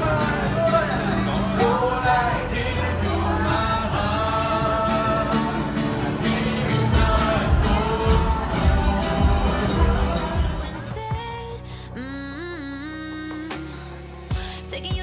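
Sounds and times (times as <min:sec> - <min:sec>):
song with singing over a beat: 0:00.0 - 0:15.0.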